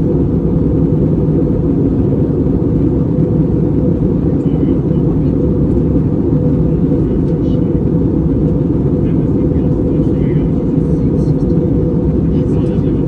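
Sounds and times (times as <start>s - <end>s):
aircraft cabin engine rumble: 0.0s - 13.0s.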